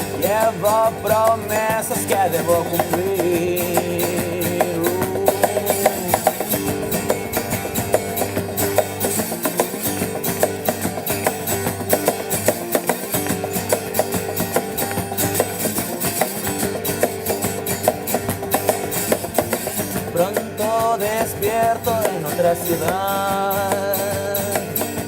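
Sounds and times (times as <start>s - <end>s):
electric guitar riff: 0.0s - 25.0s
steady drum beat: 0.0s - 25.0s.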